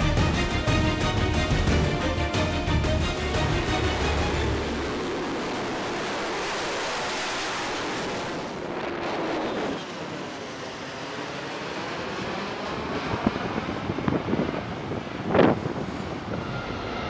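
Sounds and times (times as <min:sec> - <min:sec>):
jet flying past overhead: 0:03.2 - 0:17.0.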